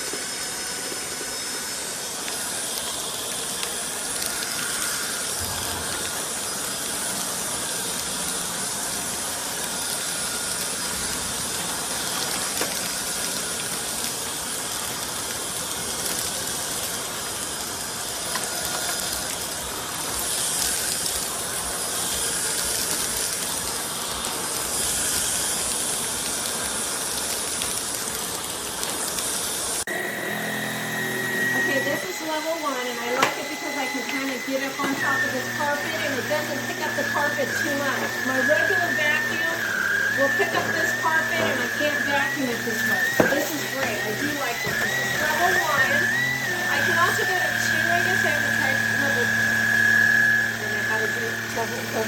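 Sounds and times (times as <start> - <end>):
stick vacuum cleaner running: 0.0 - 52.0.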